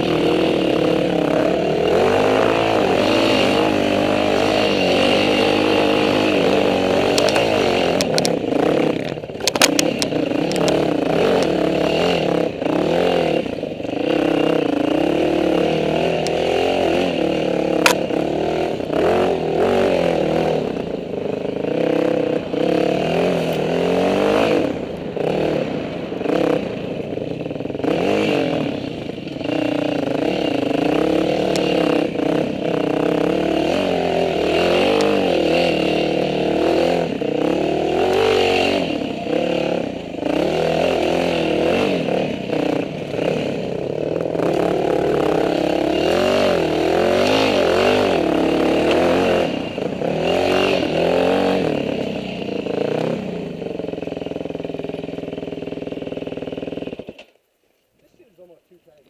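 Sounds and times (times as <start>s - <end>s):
dirt bike engine revving: 0.0s - 57.2s.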